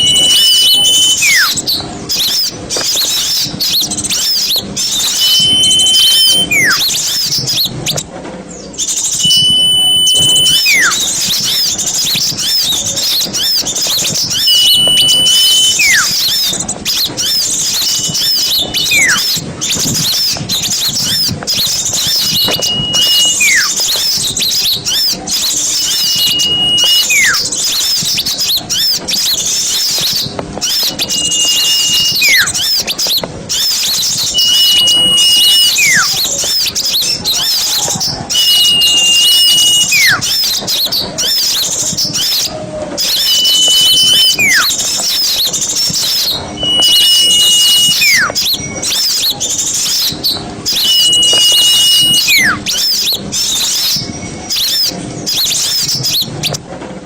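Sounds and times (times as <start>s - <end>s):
high bird whistle: 0.0s - 8.1s, 8.7s - 56.6s
songbirds twittering: 0.0s - 56.6s.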